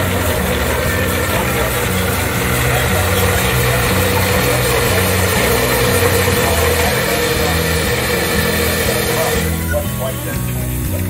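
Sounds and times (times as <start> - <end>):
steam engine rhythmic beat: 0.0 - 11.0.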